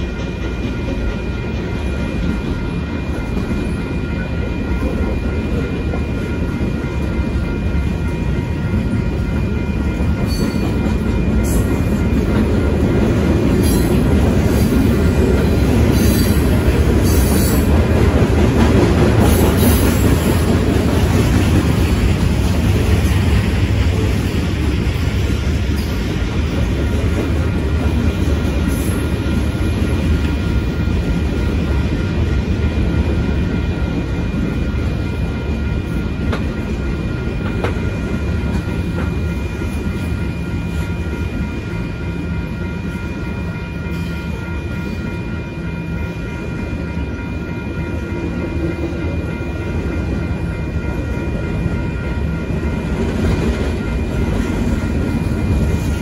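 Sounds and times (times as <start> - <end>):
high ringing tone: 0.0 - 56.0
train wheels rumbling on rail: 0.0 - 56.0.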